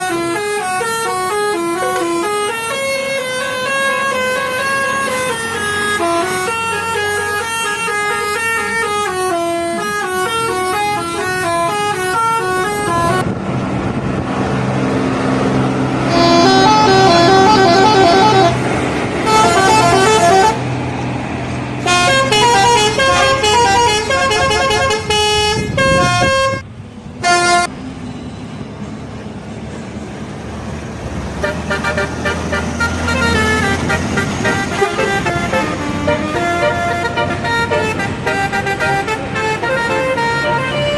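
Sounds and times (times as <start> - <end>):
multi-tone bus horns playing notes: 0.0 - 13.4, 15.8 - 21.1, 21.8 - 26.6, 27.2 - 27.8, 31.4 - 40.9
bus engine running: 0.0 - 40.9.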